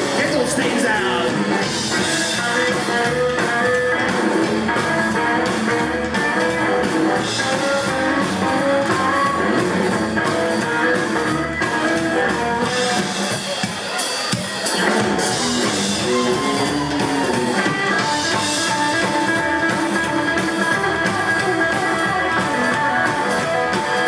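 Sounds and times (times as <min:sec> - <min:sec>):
upright double bass: 0:00.0 - 0:13.1, 0:14.8 - 0:24.0
drum kit beat: 0:00.0 - 0:24.0
electric guitar: 0:00.0 - 0:24.0.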